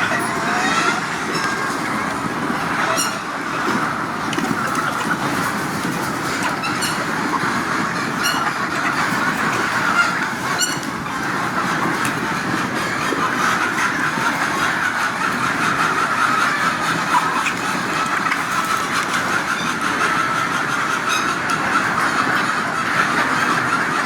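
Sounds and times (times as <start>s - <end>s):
flock of chickens calling: 0.0s - 24.0s.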